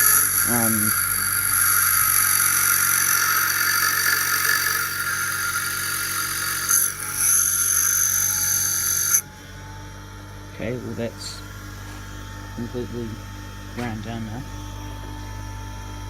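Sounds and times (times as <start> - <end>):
grinder motor hum: 0.0 - 16.0
grinder wheel grinding metal: 0.0 - 16.0.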